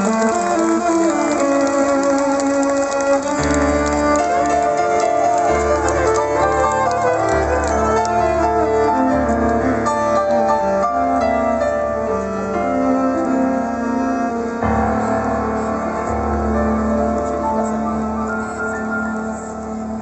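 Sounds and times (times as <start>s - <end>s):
live band instrumental: 0.0s - 20.0s
piano: 0.0s - 20.0s.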